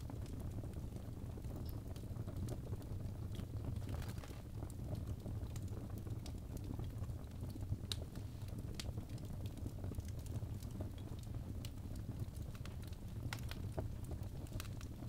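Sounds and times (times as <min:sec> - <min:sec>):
fire crackles and pops: 0:00.0 - 0:15.0
low rumble of flame: 0:00.0 - 0:15.0.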